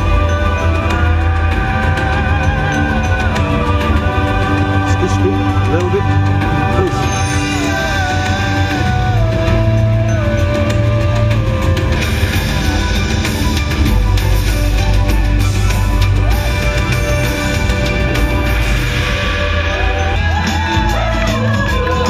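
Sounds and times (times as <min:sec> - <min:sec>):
dramatic music over loudspeakers: 0:00.0 - 0:22.0.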